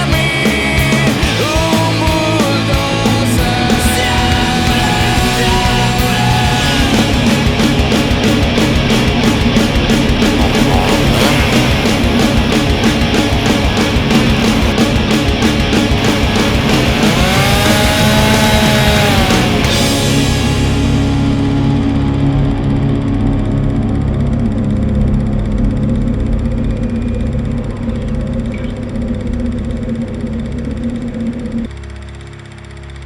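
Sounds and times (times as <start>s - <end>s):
driving drum beat: 0.0s - 22.0s, 25.6s - 31.7s
loud rock music: 0.0s - 31.7s.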